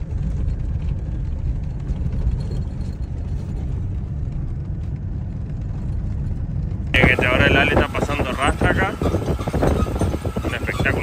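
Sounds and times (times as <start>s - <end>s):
vehicle rumbling over field track: 0.0s - 11.0s.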